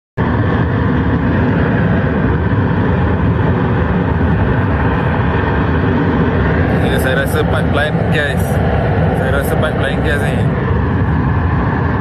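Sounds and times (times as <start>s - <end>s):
gas fire roaring: 0.2s - 12.0s.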